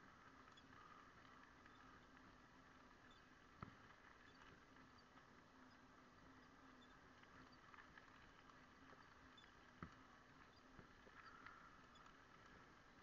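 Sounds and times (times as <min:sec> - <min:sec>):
faint ticks: 0:00.0 - 0:13.0
low steady hum: 0:00.0 - 0:13.0.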